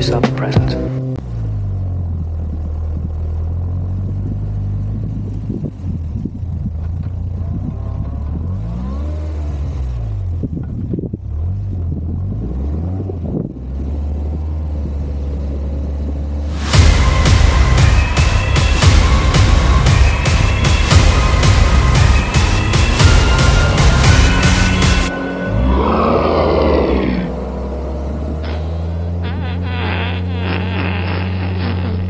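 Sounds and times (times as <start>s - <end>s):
vehicle engine revving: 0.0s - 32.0s.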